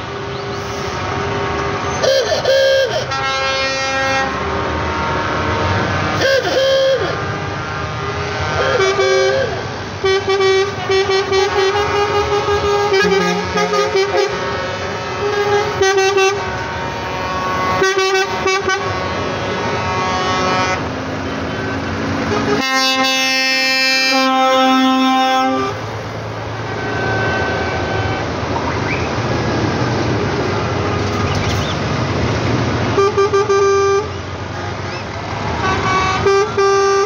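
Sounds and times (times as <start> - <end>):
truck engines running: 0.0 - 37.0
truck horns honking: 0.0 - 37.0.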